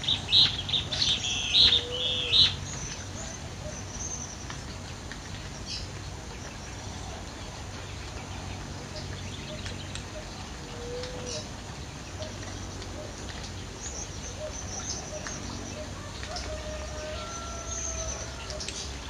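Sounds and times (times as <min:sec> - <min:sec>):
background hiss and rumble: 0:00.0 - 0:19.0
birds chirping: 0:00.0 - 0:19.0.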